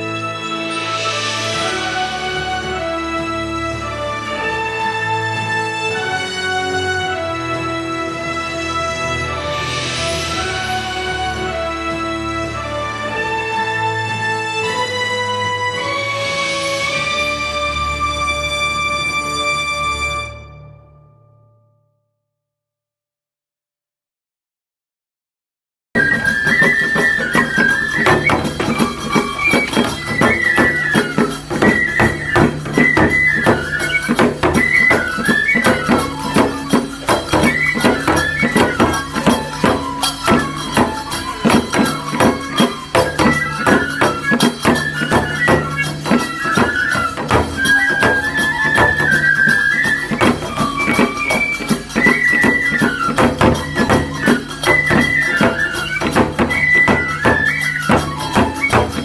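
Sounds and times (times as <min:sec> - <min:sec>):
fast dense percussion: 0:00.0 - 0:07.3, 0:08.1 - 0:19.2, 0:26.0 - 0:59.0
high flute melody: 0:00.0 - 0:20.9, 0:26.0 - 0:59.0.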